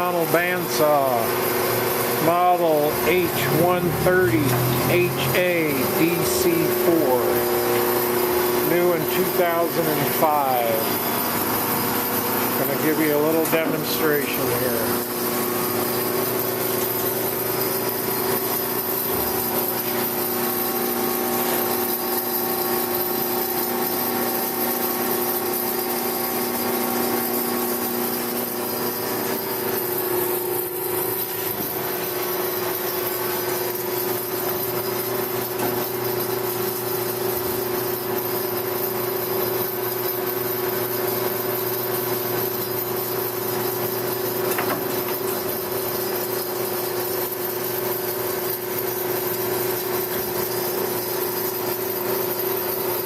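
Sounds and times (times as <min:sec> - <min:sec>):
bandsaw humming: 0:00.0 - 0:53.0.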